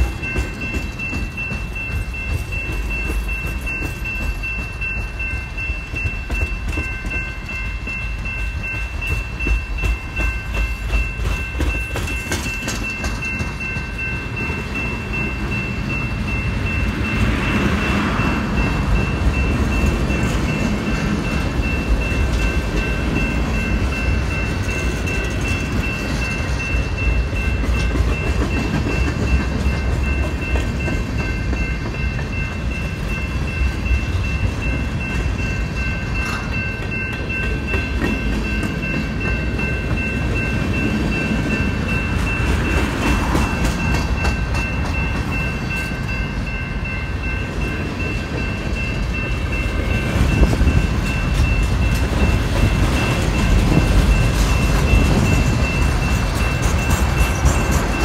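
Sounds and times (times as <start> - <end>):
high-pitched ringing tones: 0.0 - 58.0
train wheels rumbling on rail: 0.0 - 58.0.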